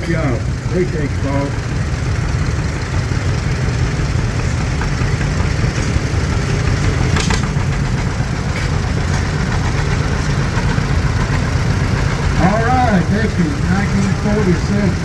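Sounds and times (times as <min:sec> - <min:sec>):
tractor engines rumbling: 0:00.0 - 0:15.0.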